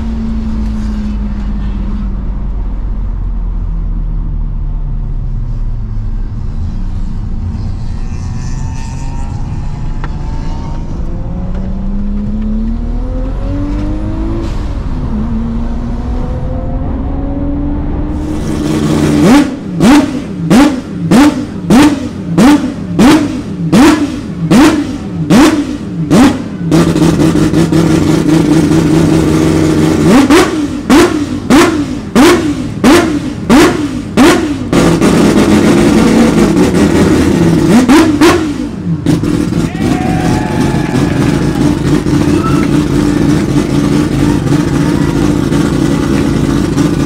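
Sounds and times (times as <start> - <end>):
car engine heard from cabin: 0.0 - 47.0
rotary engine revving: 6.2 - 47.0.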